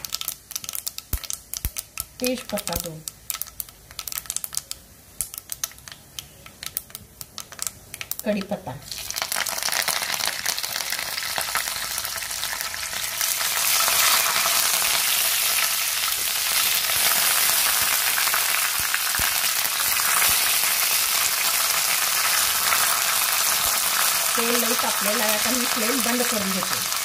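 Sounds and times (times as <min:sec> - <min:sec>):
spices sizzling in hot oil: 0:00.0 - 0:27.0.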